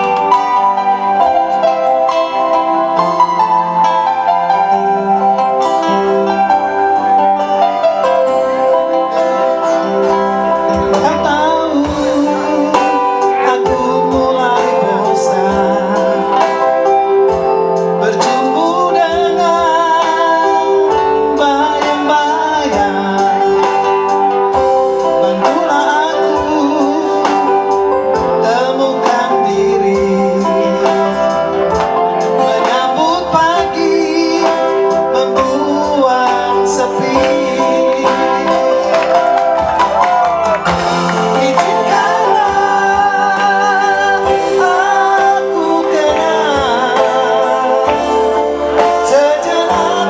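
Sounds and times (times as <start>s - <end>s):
guitar accompaniment: 0.0s - 50.0s.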